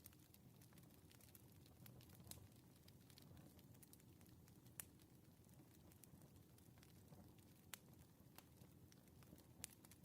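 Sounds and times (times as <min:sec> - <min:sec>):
faint wood fire crackling: 0:00.0 - 0:10.0.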